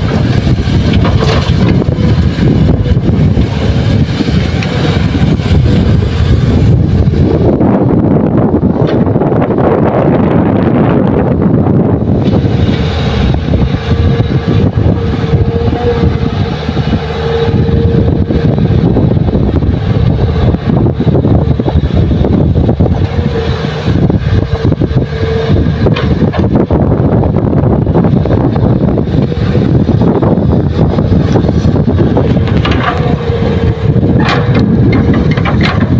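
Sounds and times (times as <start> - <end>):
excavator diesel engine: 0.0 - 35.9
high steady whine: 0.0 - 35.9.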